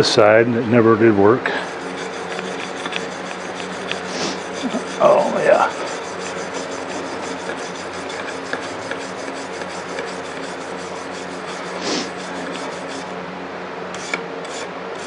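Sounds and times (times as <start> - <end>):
wire brush scrubbing metal: 1.6 - 13.2, 14.0 - 15.0.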